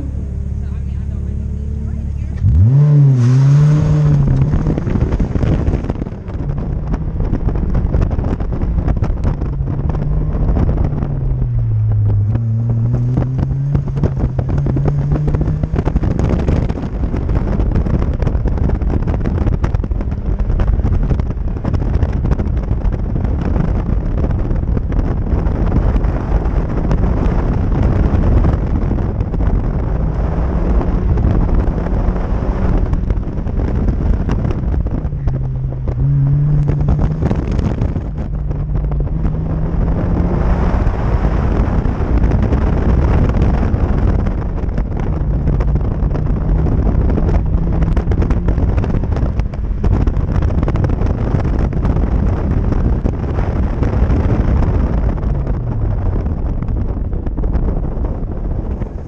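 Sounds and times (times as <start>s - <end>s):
car engine running hard: 0.0s - 59.0s
wind buffeting microphone: 0.0s - 59.0s.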